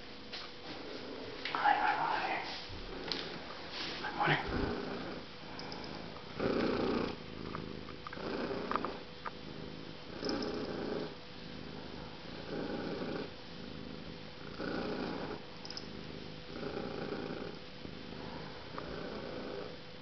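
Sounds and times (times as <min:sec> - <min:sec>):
cat purring: 0:00.7 - 0:20.0.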